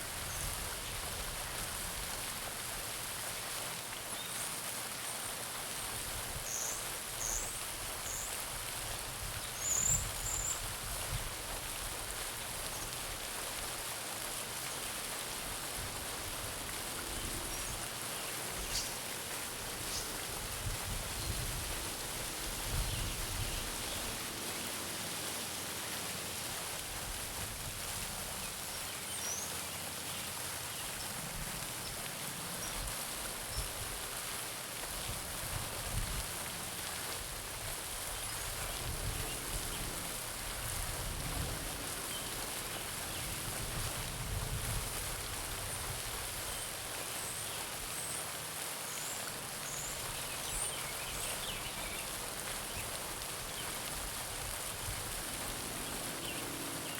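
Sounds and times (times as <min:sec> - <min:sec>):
fountain splashing into pond: 0:00.0 - 0:56.9.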